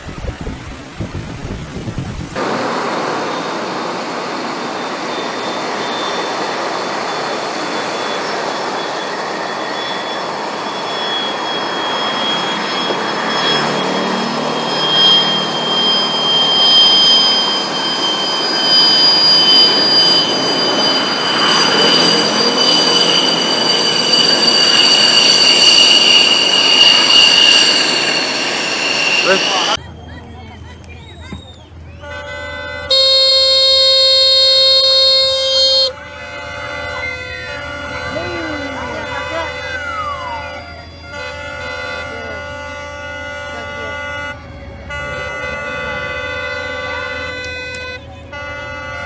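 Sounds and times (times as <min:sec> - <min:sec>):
fighter jet engine roar: 0:00.0 - 0:29.8, 0:32.9 - 0:47.9.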